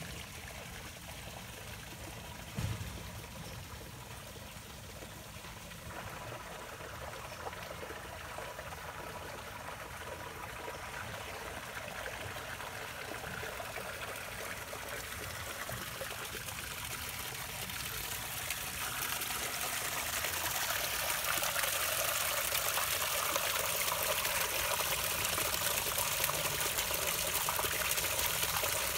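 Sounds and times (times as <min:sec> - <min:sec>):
small waterfall splashing into pool: 0:00.0 - 0:28.9
water trickling over rocks: 0:00.0 - 0:28.9.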